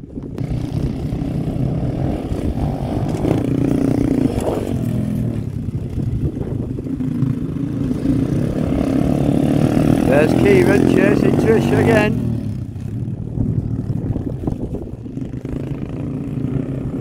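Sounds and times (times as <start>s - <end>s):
pitbike engines revving: 0.0s - 17.0s.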